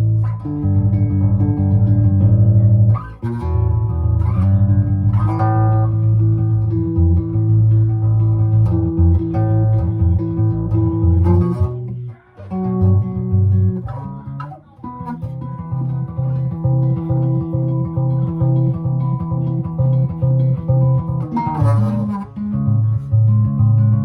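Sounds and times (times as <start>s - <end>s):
guitar music with bass line: 0.0s - 24.0s.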